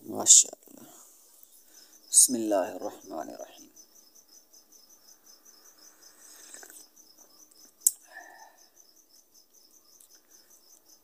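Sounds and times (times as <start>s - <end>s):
field crickets chirping: 0.0s - 11.0s.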